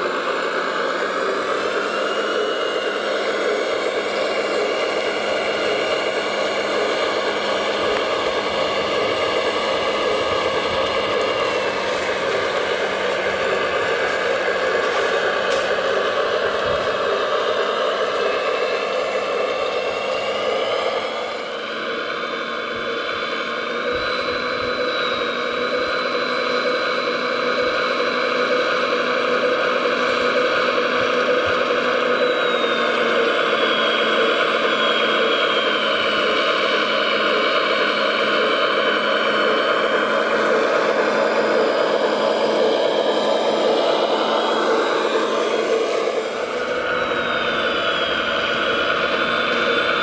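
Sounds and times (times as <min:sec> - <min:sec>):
high motor whine: 0:00.0 - 0:50.0
toy truck motor drone: 0:00.0 - 0:50.0.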